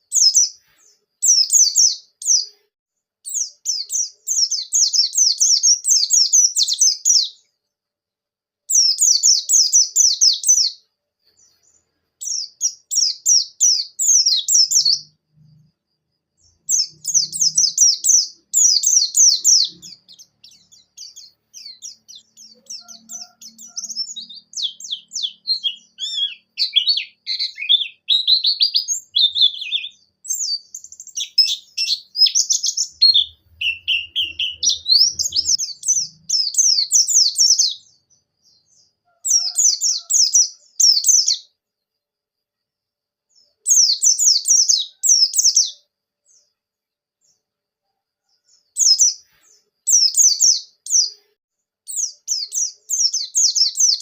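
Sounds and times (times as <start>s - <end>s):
bird twittering song: 0.0s - 7.7s, 8.7s - 41.6s, 43.3s - 46.6s, 48.2s - 51.3s, 51.9s - 54.0s.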